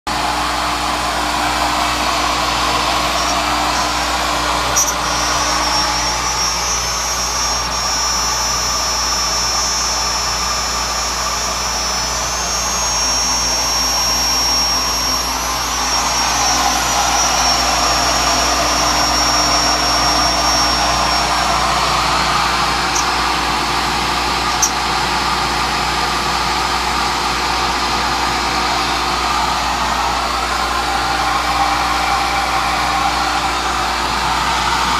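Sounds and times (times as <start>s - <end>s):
high-pitched cutting whine: 0.1s - 34.9s
milling machine whirring: 0.1s - 34.9s.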